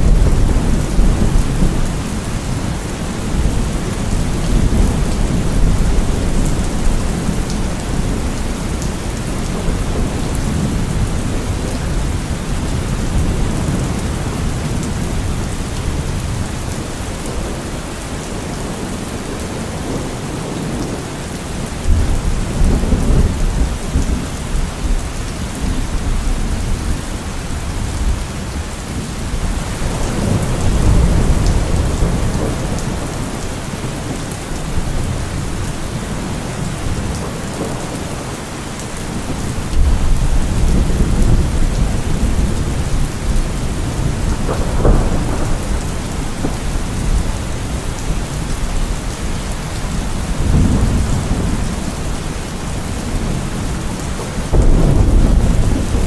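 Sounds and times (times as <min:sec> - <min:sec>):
rolling thunder: 0:00.0 - 0:20.9, 0:29.2 - 0:38.3, 0:39.0 - 0:56.0
steady rain falling: 0:00.0 - 0:56.0.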